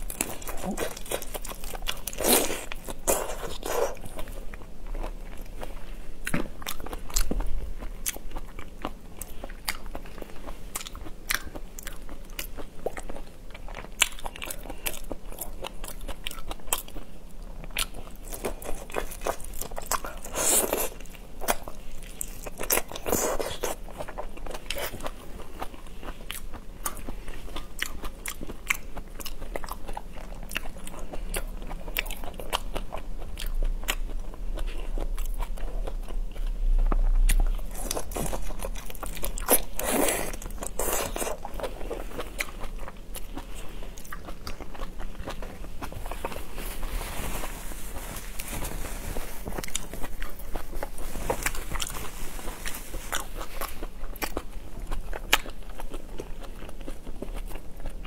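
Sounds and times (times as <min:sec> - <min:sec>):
crunching and chewing shrimp: 0:00.0 - 0:58.0.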